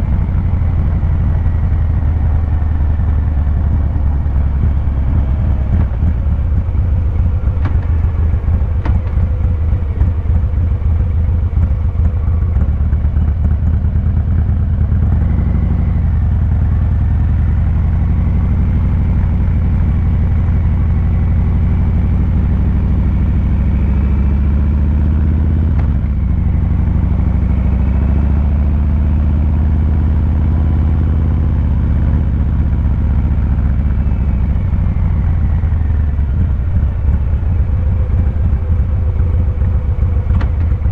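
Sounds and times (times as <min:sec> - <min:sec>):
motorcycle engine deep rumble: 0:00.0 - 0:40.9.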